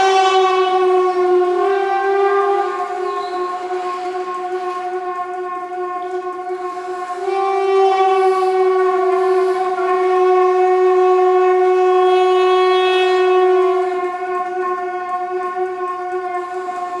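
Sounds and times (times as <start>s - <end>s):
long wind instrument note: 0.0s - 17.0s.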